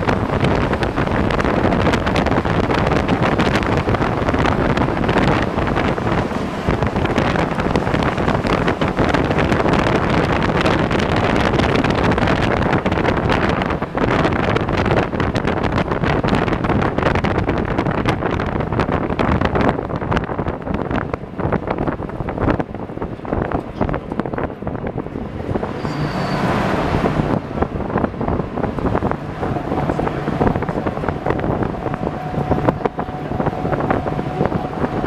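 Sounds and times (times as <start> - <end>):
truck engine and road noise: 0.0 - 35.0
vehicle rattles and knocks: 0.0 - 35.0
wind buffeting microphone: 0.0 - 35.0.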